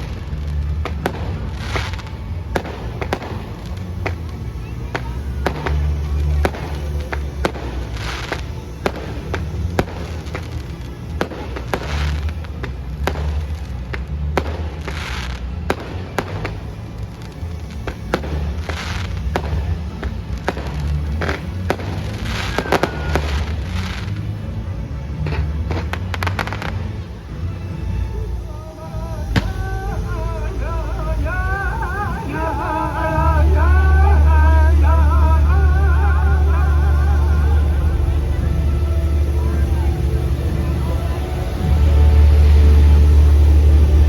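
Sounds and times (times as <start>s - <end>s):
fireworks bangs and crackling: 0.0s - 44.0s
loud show music: 0.0s - 44.0s.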